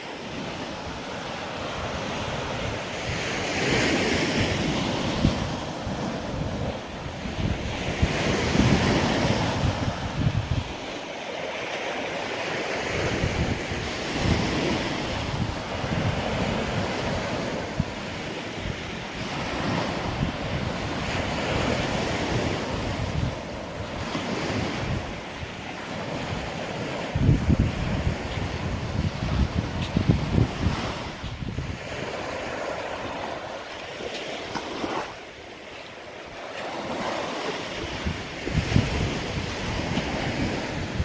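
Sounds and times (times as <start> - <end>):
surf washing onto beach: 0.0 - 41.0
wind buffeting microphone: 0.8 - 11.0, 12.5 - 35.3, 36.8 - 41.0.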